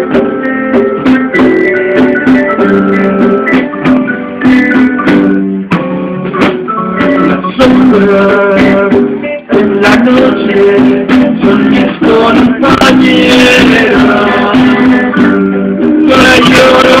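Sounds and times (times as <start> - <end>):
band playing instrumental: 0.0 - 17.0.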